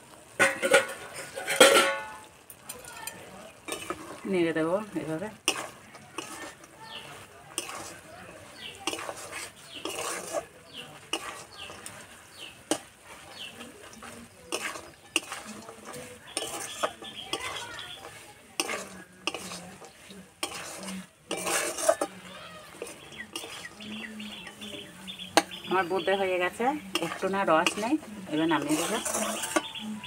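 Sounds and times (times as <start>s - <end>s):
metal spatula scraping iron pan: 0.4s - 2.4s, 3.0s - 30.0s.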